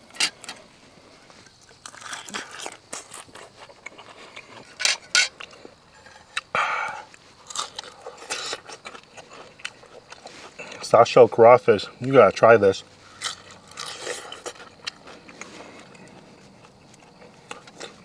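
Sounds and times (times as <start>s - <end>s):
crunching and chewing: 0.0s - 18.0s.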